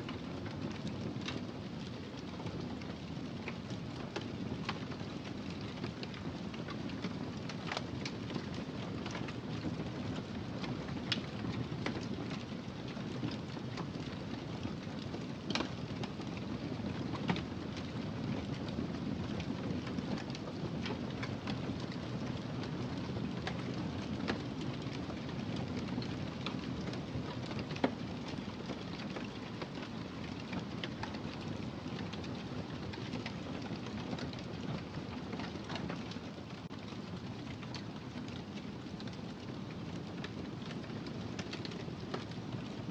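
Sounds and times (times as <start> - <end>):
fire crackling and popping: 0.1 - 42.9.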